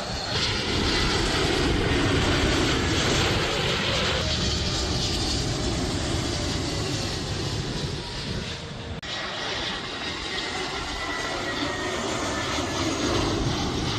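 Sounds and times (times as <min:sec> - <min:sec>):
jet engines running: 0:00.0 - 0:13.9.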